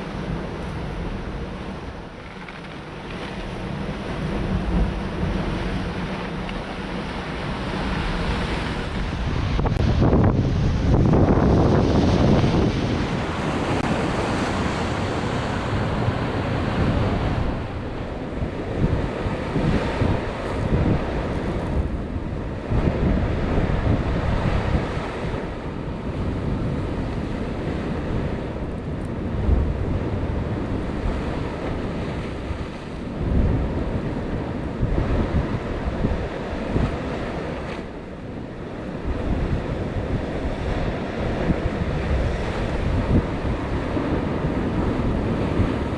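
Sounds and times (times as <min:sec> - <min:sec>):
sea waves breaking on shore: 0:00.0 - 0:45.9
wind buffeting microphone: 0:00.0 - 0:45.9.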